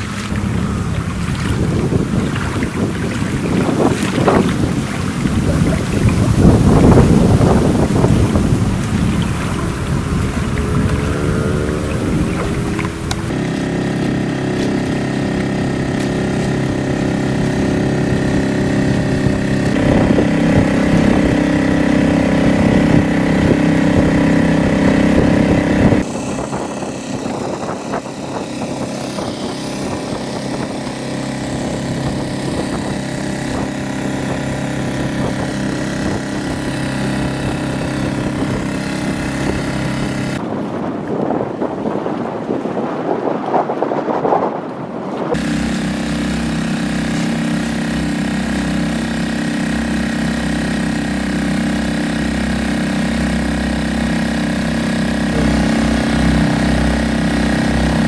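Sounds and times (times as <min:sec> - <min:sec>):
boat engine running: 0:00.0 - 0:58.0
water noise: 0:00.0 - 0:58.0
wind: 0:00.0 - 0:58.0.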